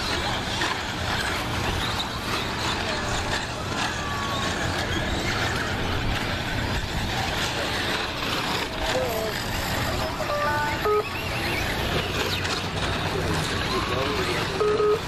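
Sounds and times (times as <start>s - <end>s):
steady wash of noise: 0.0s - 14.6s
rc truck motors whining: 0.0s - 15.0s.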